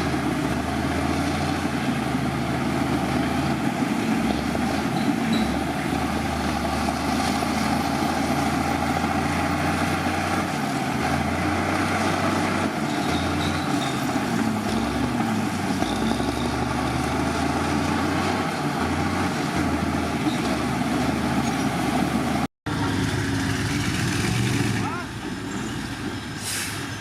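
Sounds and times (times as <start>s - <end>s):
diesel machinery engine drone: 0.0s - 27.0s.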